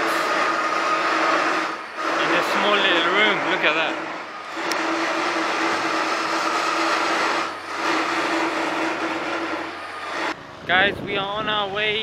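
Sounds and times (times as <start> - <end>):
machine motor whine and hum: 0.0 - 10.4.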